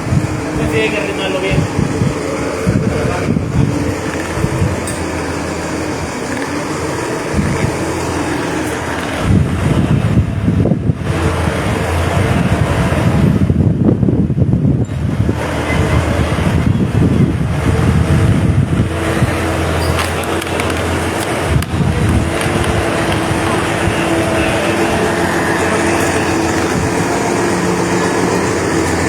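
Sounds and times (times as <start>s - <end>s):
heavy vehicle engine rumbling: 0.0s - 29.0s
wind buffeting microphone: 0.0s - 29.0s.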